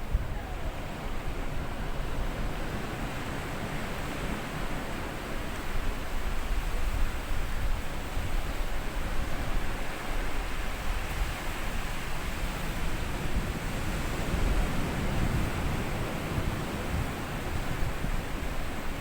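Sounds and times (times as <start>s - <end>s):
waves washing onto beach: 0.6s - 19.0s.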